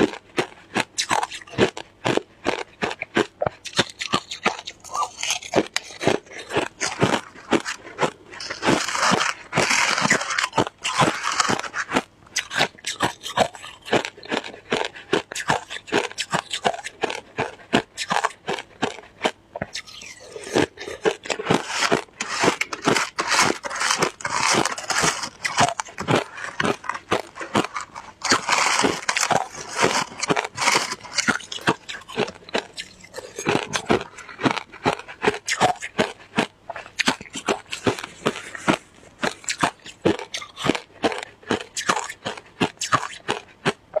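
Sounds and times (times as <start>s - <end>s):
ice being chewed: 0.0s - 44.0s.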